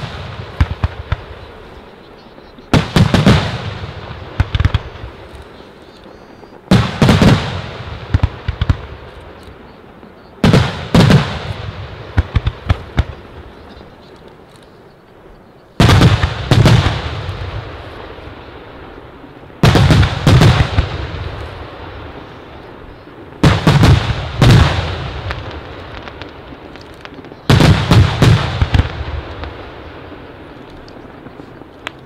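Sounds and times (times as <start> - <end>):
sharp crackling of fireworks: 0.0 - 32.0.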